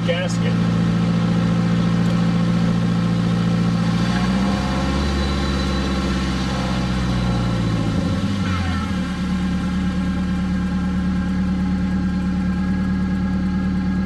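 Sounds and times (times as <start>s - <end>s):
turbocharged engine running: 0.0s - 14.0s.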